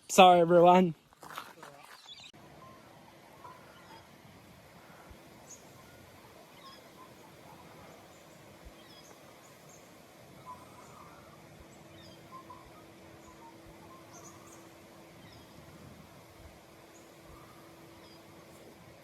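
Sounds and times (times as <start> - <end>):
birds chirping: 1.8 - 19.0
faint hum: 2.3 - 19.0
low hiss: 2.4 - 19.0.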